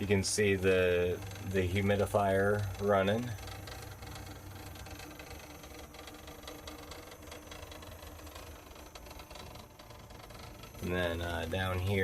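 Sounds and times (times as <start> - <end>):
humidifier humming: 0.0 - 12.0.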